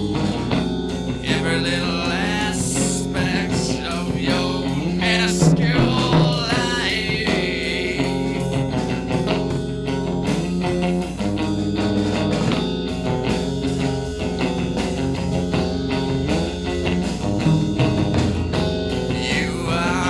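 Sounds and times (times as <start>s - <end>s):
rock guitar: 0.0s - 20.0s
steady drum beat: 0.0s - 20.0s.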